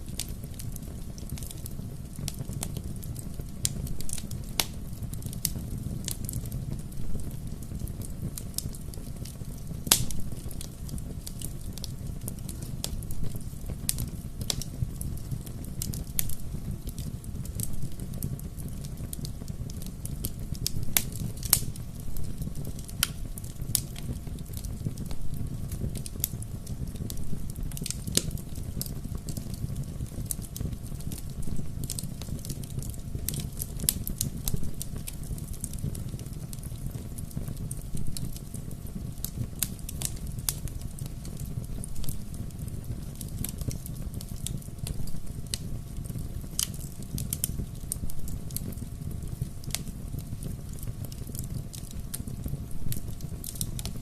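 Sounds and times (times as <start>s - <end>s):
bonfire crackling: 0.0s - 54.0s
fire pops and snaps: 0.0s - 54.0s
low rumble of flames: 0.0s - 54.0s.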